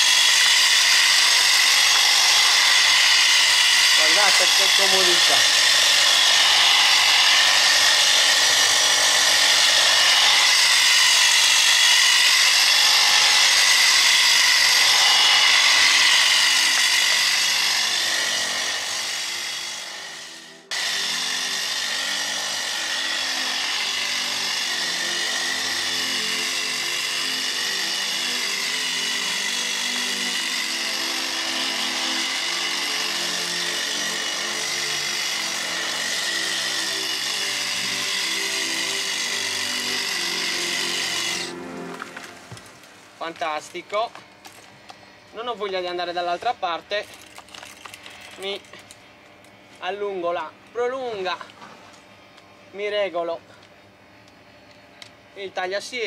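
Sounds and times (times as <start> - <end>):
background music: 0.0 - 56.0
hedge trimmer whining: 0.0 - 56.0.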